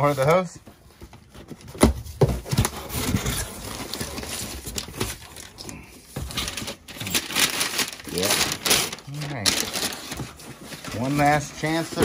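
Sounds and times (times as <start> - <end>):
cardboard and paper rustling: 0.0 - 12.0.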